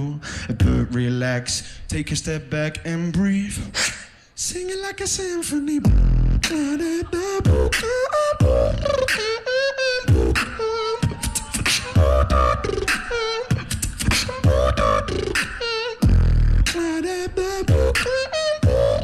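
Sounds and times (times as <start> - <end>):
beatboxing into a microphone: 0.0 - 19.0.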